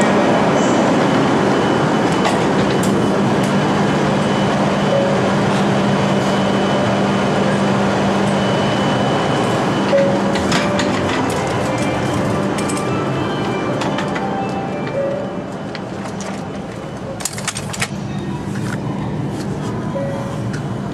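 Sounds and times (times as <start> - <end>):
train mechanical rush: 0.0 - 20.9.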